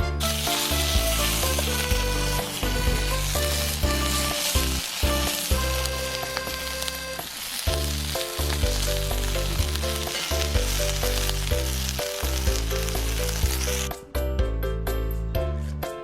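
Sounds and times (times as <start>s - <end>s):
background music: 0.0s - 16.0s
food sizzling in a pan: 0.2s - 14.0s.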